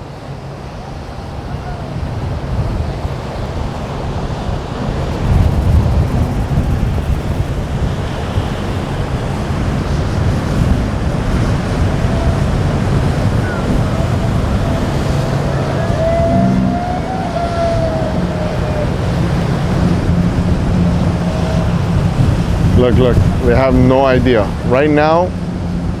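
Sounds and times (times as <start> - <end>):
surf: 0.0 - 26.0
wind buffeting microphone: 0.7 - 26.0.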